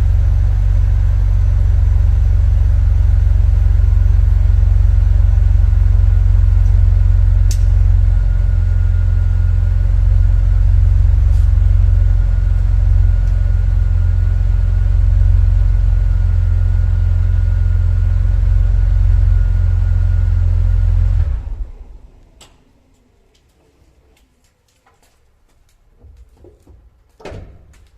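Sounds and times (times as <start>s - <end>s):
car engine idling: 0.0s - 22.8s.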